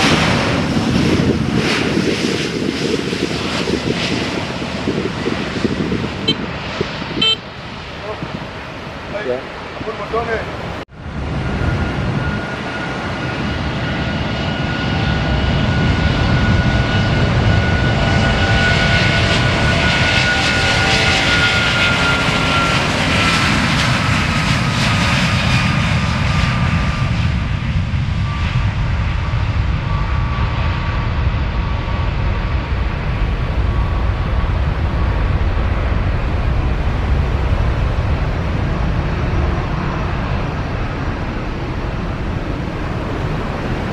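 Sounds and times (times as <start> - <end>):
airliner engines roaring with whine: 0.0 - 43.9.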